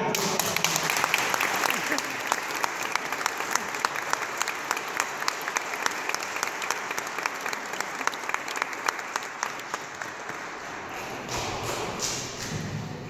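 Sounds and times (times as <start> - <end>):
people clapping: 0.0 - 13.0.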